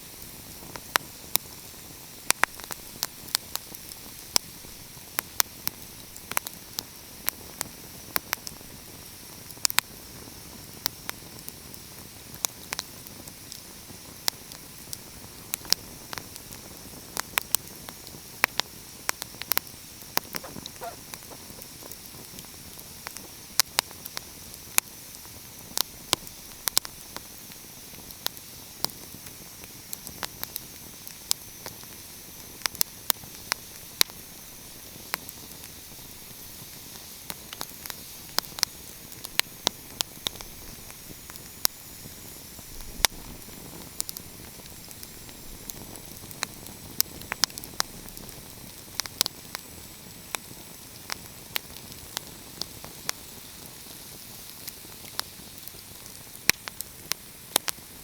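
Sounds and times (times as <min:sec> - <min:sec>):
soft fire hiss: 0:00.0 - 0:58.0
wood fire crackling and popping: 0:00.2 - 0:58.0.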